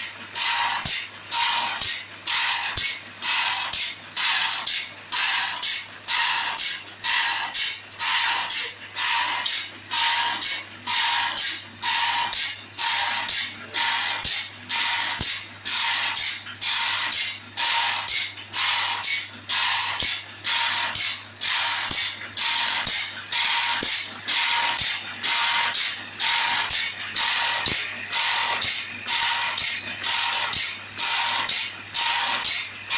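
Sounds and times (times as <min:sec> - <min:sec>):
grinding rasp on saw blade: 0:00.0 - 0:32.9
steady motor hum: 0:00.0 - 0:32.9.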